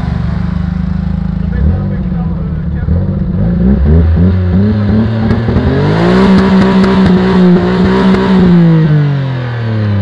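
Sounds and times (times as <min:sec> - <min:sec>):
car engine revving at rev limiter: 0:00.0 - 0:10.0.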